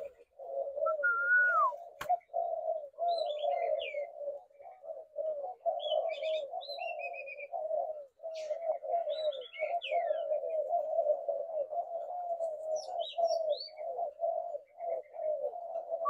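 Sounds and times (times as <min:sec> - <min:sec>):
doves cooing: 0:00.0 - 0:16.0
small birds chirping and trilling: 0:00.0 - 0:16.0.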